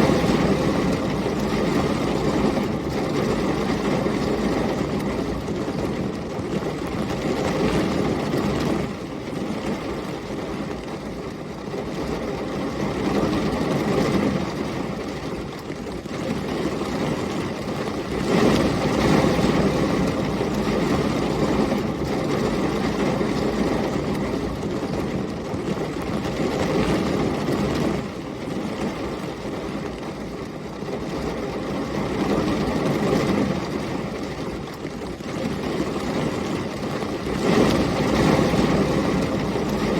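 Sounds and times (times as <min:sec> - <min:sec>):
gusting storm wind: 0:00.0 - 0:39.9
heavy rain: 0:00.0 - 0:39.9.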